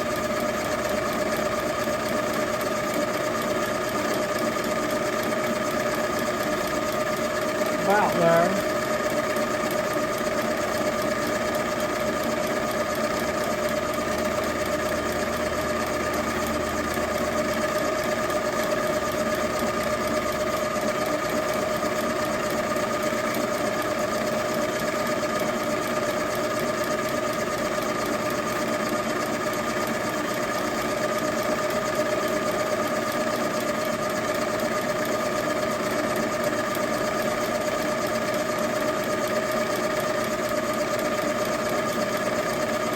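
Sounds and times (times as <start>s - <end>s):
milling machine spindle whine: 0.0s - 42.9s.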